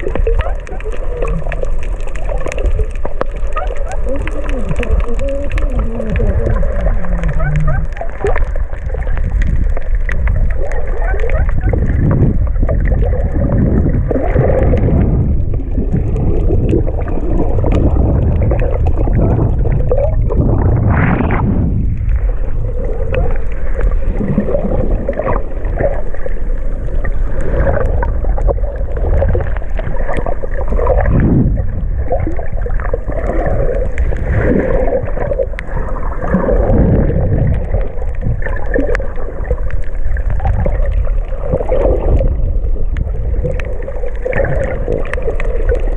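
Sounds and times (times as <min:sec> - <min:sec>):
deep underwater rumble: 0:00.0 - 0:45.9.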